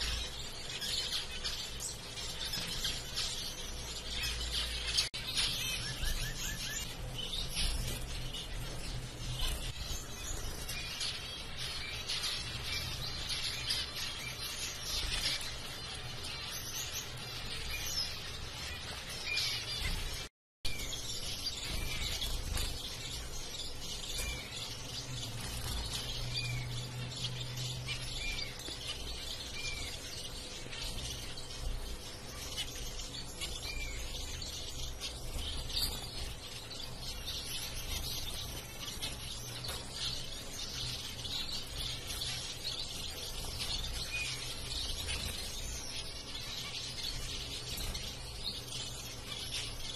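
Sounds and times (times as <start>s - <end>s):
finches chirping: 0.0s - 49.9s.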